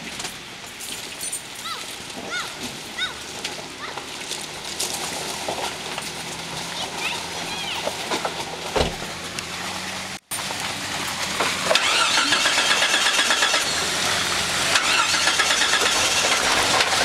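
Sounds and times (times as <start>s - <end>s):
engine running and revving: 3.2s - 17.0s.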